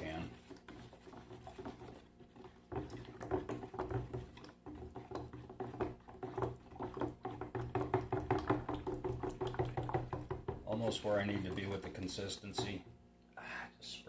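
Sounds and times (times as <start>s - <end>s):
spoon stirring plaster in metal can: 0.0s - 13.0s.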